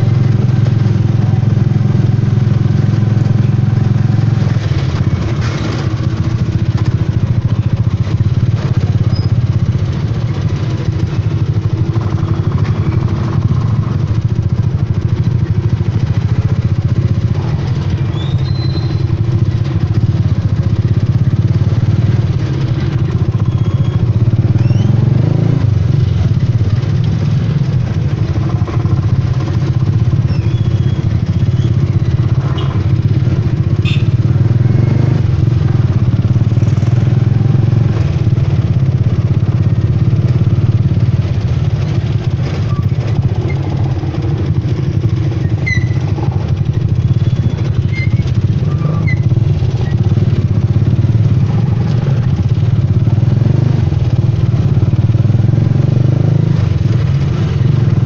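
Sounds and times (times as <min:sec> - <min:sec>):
motorcycle engine running: 0:00.0 - 0:58.0
street traffic: 0:00.0 - 0:58.0.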